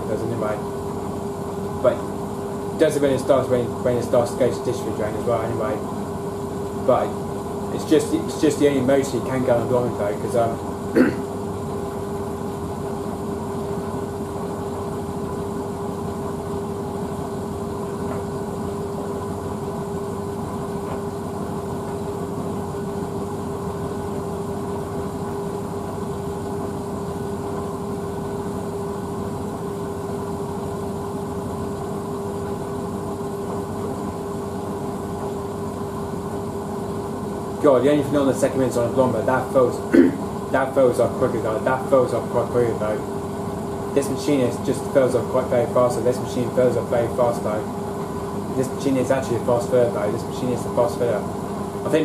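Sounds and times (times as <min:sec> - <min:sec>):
washing machine filling with water: 0:00.0 - 0:50.0.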